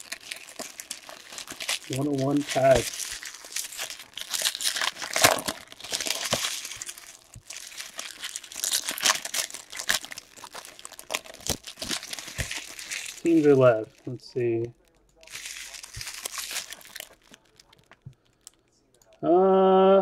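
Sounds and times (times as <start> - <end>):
foil wrappers crinkling and tearing: 0.0 - 19.2.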